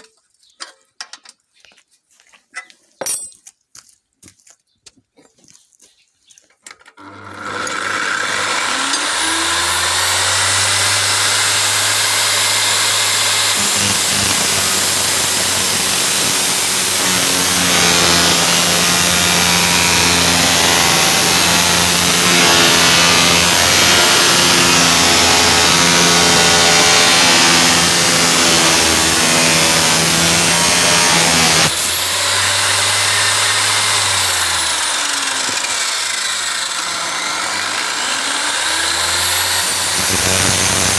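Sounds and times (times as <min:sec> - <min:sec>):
cut-off saw motor cutting: 0:07.0 - 0:40.9.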